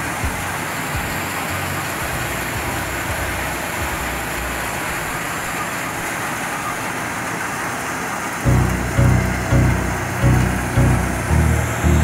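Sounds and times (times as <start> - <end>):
harvester engine and machinery running: 0.1 - 12.0.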